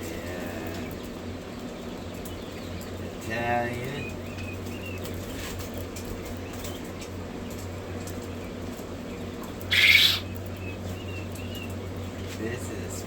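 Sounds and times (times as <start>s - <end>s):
young quail peeping: 0.0s - 13.0s.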